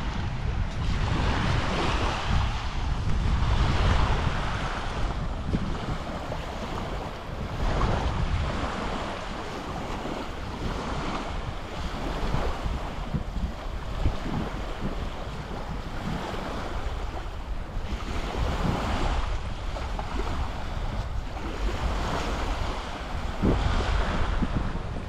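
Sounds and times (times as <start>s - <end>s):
small waves washing onto beach: 0.0s - 25.0s
wind rumbling on microphone: 0.0s - 25.0s.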